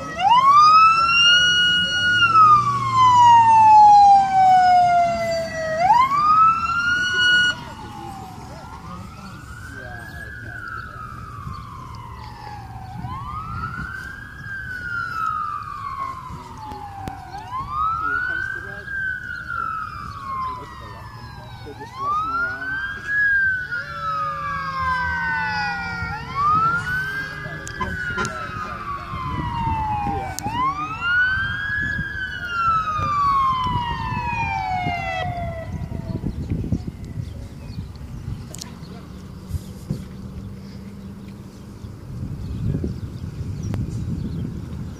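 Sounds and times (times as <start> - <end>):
emergency siren wailing: 0.0 - 40.0.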